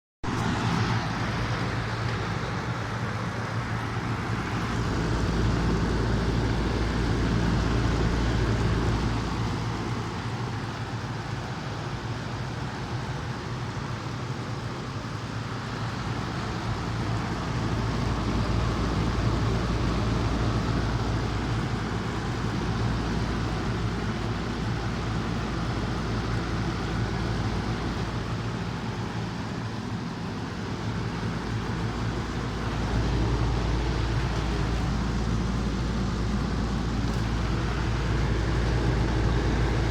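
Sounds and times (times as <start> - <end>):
rushing fan noise: 0.2 - 39.9.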